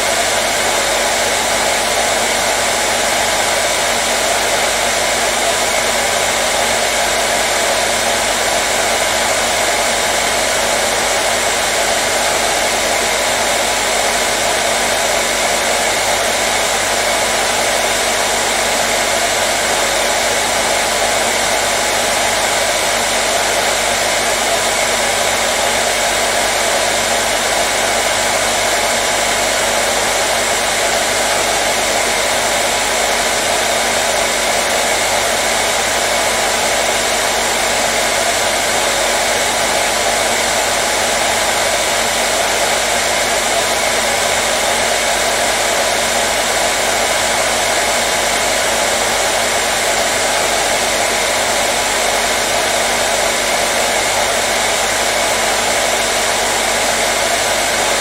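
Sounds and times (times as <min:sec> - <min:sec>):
hair dryer airflow whoosh: 0:00.0 - 0:58.0
hair dryer motor hum: 0:00.0 - 0:58.0.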